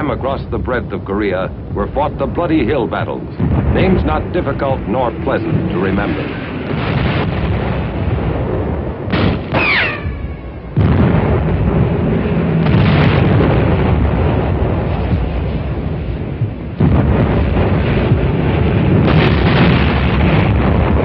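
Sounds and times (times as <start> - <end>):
artillery explosions rumbling: 0.0 - 21.0
loud blast: 1.7 - 21.0.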